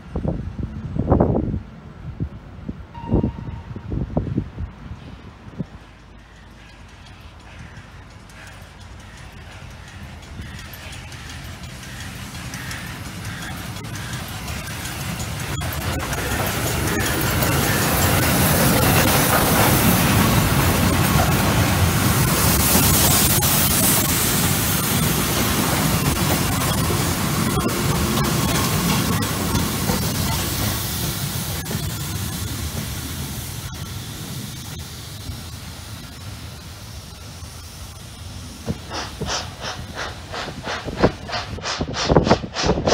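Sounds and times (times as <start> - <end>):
steam locomotive hissing: 5.0 - 42.9
train wheels clattering on track: 5.5 - 42.9.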